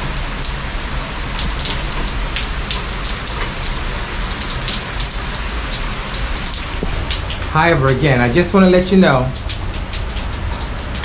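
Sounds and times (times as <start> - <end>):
raindrops hitting close by: 0.0 - 11.0
steady rain: 0.0 - 11.0.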